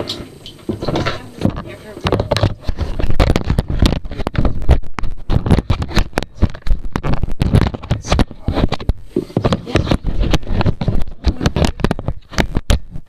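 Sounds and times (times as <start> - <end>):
knocking and scraping on camera: 0.6 - 13.0.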